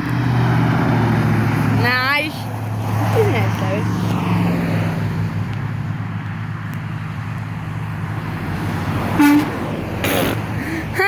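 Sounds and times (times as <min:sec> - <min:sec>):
roadway noise: 0:00.0 - 0:11.0
vehicle engine humming: 0:00.0 - 0:11.0.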